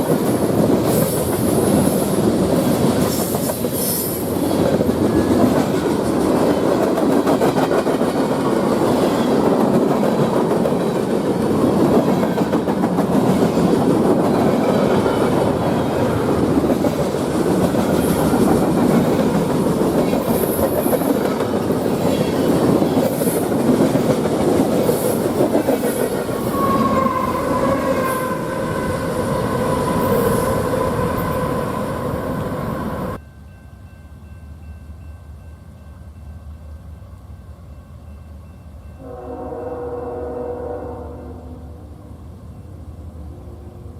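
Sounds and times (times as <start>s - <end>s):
train rumbling past: 0.0s - 43.9s.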